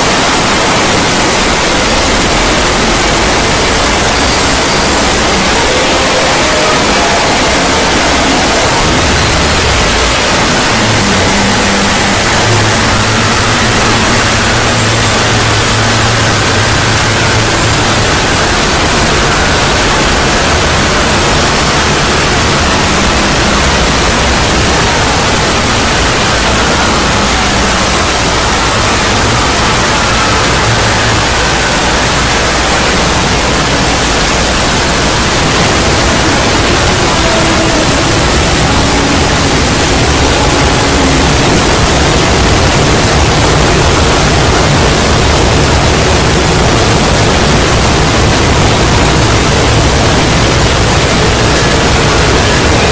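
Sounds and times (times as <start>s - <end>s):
dense distorted noise: 0.0s - 52.9s.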